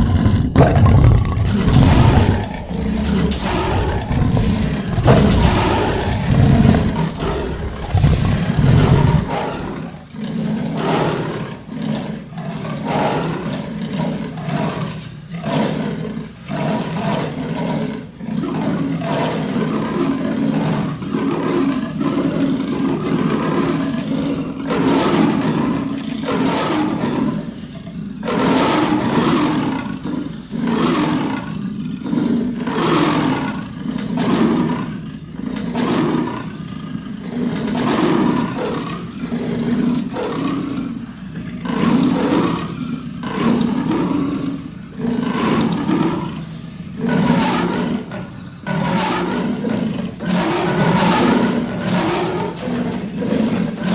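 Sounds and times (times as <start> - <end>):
deep monster roaring: 0.0 - 53.9.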